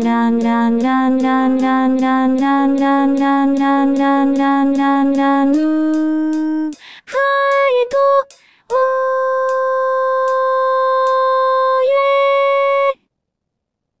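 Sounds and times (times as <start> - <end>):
synthesized female singing voice: 0.0 - 13.0.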